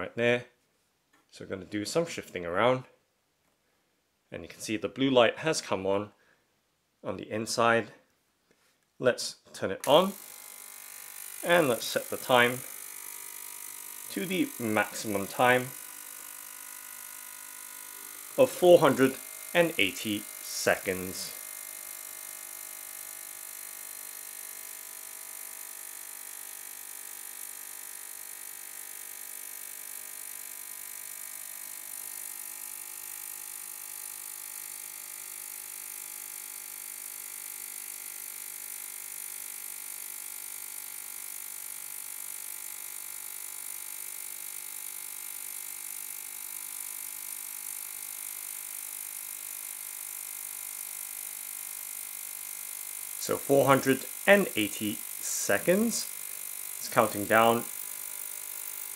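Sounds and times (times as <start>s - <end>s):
ultrasonic cleaner buzzing: 9.8s - 58.9s.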